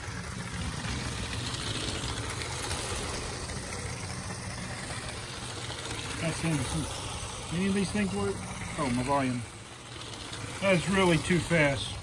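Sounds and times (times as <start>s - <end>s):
toy train running on plastic track: 0.0s - 12.0s.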